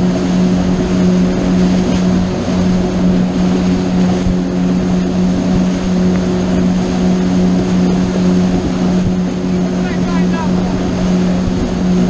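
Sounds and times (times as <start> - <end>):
motorboat engine drone: 0.0 - 12.0
rushing water noise: 0.0 - 12.0.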